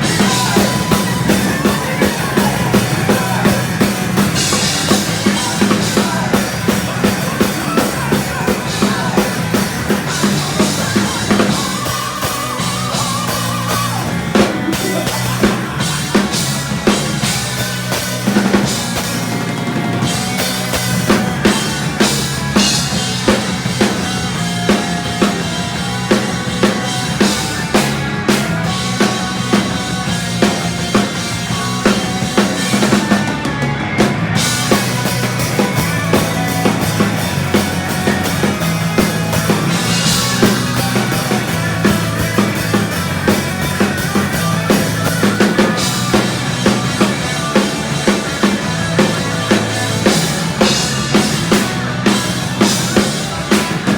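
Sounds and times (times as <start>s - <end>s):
bass drum and snare beat: 0.0s - 53.9s
heavy metal band playing live: 0.0s - 53.9s.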